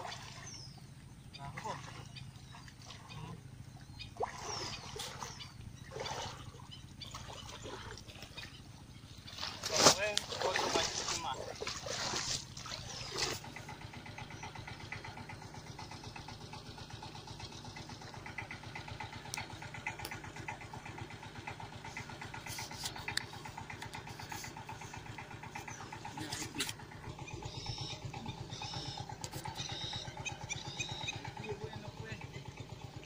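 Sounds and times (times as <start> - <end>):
small engine idling: 0.0 - 33.0.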